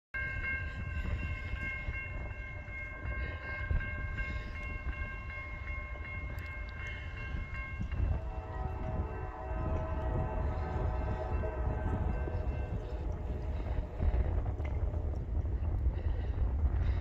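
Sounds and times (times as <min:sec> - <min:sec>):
crossing bell ringing: 0:00.2 - 0:15.6
low rumble: 0:00.3 - 0:17.0.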